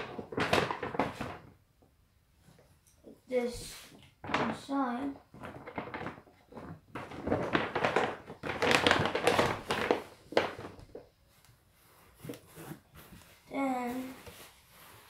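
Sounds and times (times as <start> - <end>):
paper bag rustling: 0.0 - 1.6, 4.2 - 15.0.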